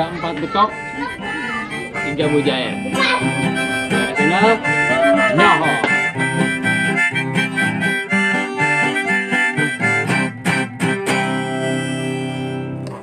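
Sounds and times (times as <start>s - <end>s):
instrumental music: 0.0s - 13.0s.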